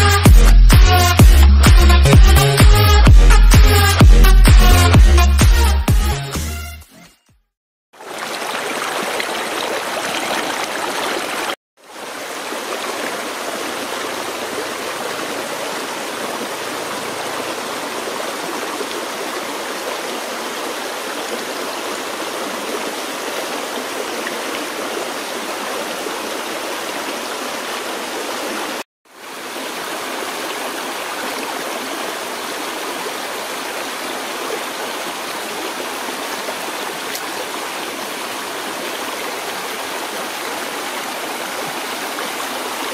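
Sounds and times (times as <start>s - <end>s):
stream rushing over rocks: 8.0s - 42.9s.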